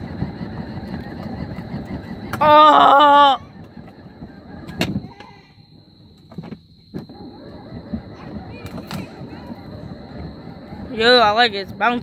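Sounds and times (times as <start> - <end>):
small vehicle rolling over pavement: 0.0 - 12.0.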